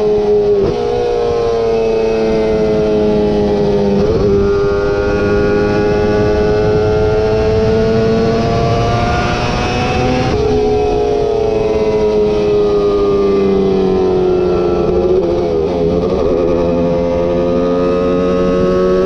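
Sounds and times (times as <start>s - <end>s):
motorcycle engine at high revs: 0.0s - 19.0s.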